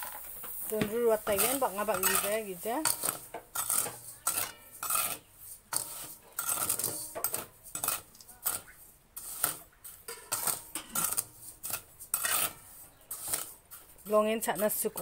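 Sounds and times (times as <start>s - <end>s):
metal spatula scraping through grit: 0.0s - 15.0s.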